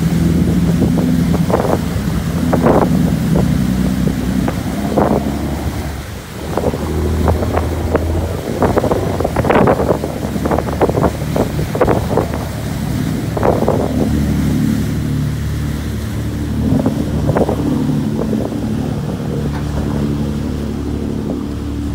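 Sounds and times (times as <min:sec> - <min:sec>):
boat engines droning: 0:00.0 - 0:21.9
water rushing and splashing: 0:00.0 - 0:21.9
wind buffeting microphone: 0:00.0 - 0:21.9.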